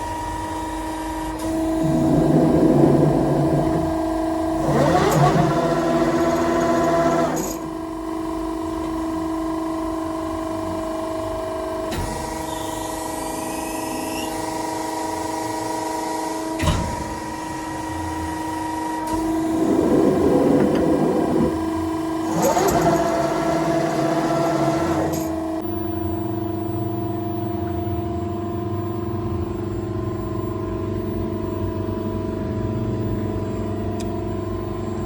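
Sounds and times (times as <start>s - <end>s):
press brake machinery humming: 0.0s - 8.0s, 11.7s - 35.0s.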